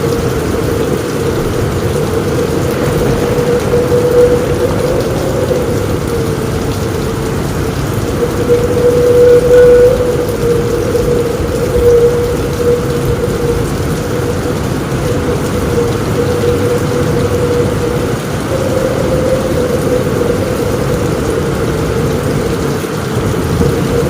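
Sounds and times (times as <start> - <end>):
deep rumble: 0.0 - 24.0
heavy rain on a roof: 0.0 - 24.0
strong wind: 0.0 - 24.0
wavering drone: 0.0 - 24.0.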